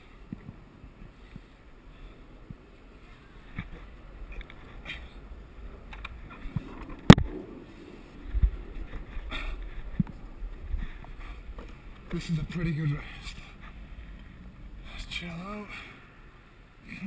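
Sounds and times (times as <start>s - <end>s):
low rumble: 0.0s - 16.9s.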